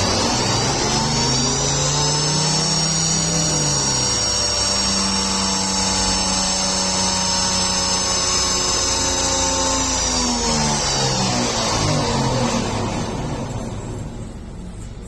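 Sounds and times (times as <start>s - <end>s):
diesel engine at high revs: 0.0s - 15.0s
high-pitched whine: 0.0s - 15.0s.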